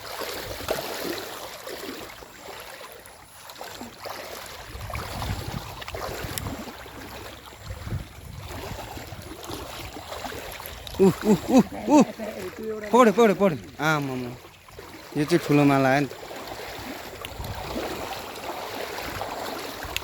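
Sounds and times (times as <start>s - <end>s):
stream water splashing and rushing: 0.0s - 20.0s.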